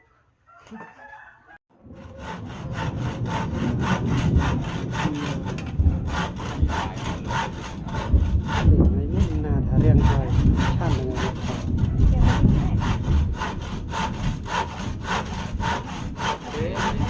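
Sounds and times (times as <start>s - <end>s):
hand saw cutting wood: 1.9s - 17.0s.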